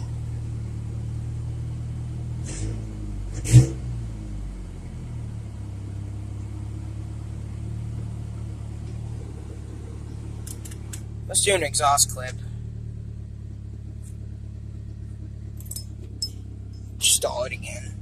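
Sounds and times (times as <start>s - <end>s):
pickup engine idling: 0.0s - 3.3s, 4.0s - 18.0s.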